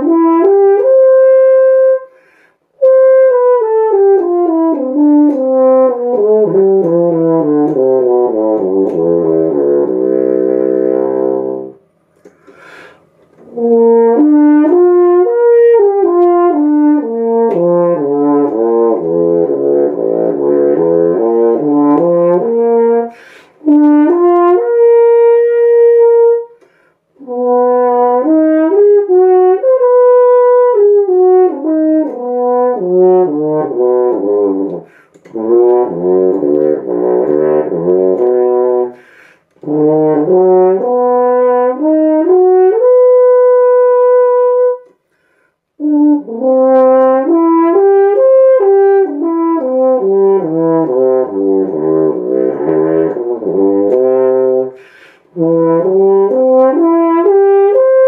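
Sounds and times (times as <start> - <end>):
french horn playing solo: 0.0 - 58.0.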